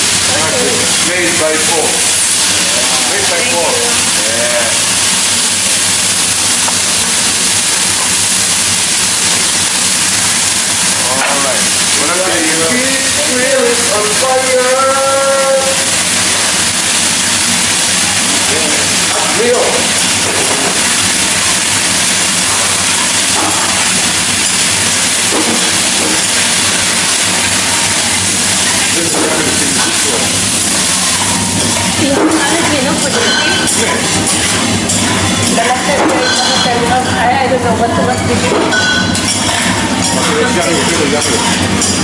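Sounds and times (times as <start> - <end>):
water hissing on hot griddle: 0.0 - 42.0.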